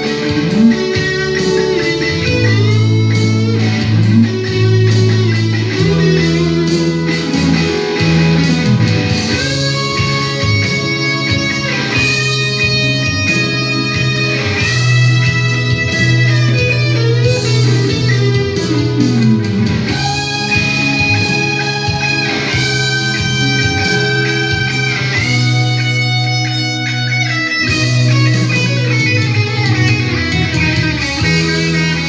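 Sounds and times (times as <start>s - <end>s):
electric guitar lead line: 0.0s - 32.0s.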